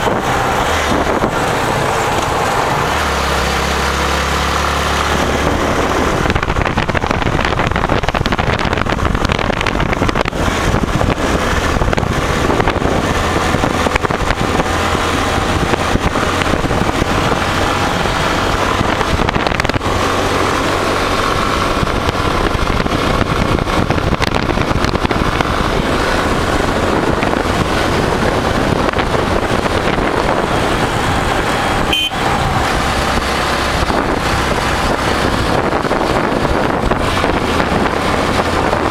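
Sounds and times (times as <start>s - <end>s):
motorcycle engine running: 0.0s - 38.9s
wind rushing on microphone: 0.0s - 38.9s.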